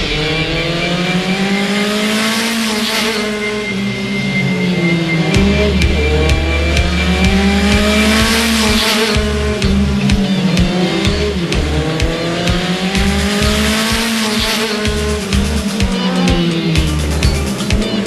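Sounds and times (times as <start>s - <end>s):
race car engines revving past: 0.0s - 18.0s
instrumental music with pulsing bass: 3.5s - 18.0s.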